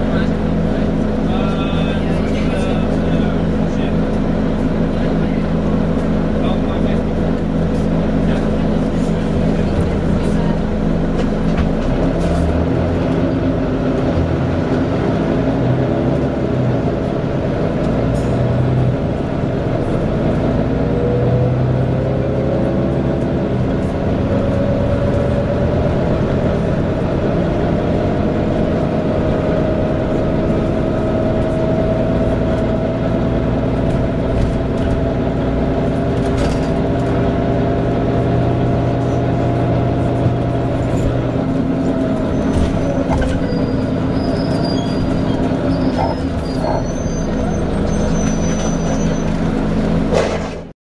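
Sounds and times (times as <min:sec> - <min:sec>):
bus engine drone: 0:00.0 - 0:50.7.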